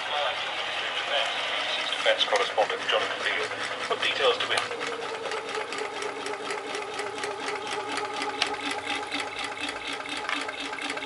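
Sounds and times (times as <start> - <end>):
engine generator clattering: 0.0 - 11.0.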